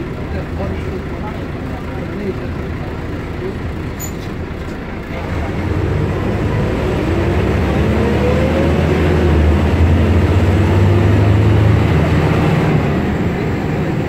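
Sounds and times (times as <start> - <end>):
bus diesel engine drone: 0.0 - 14.0.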